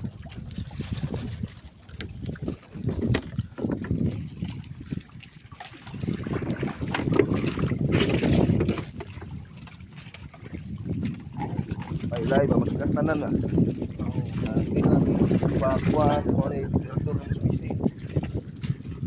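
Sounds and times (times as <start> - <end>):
water splashing against boat: 0.0 - 19.0
wind buffeting microphone: 0.0 - 19.0.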